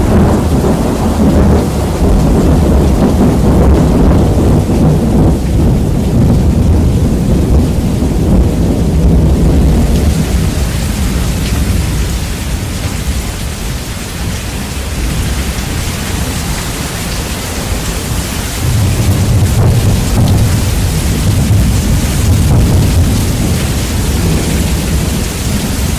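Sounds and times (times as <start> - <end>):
heavy rain: 0.0 - 25.9
thunder rumble: 0.0 - 25.9.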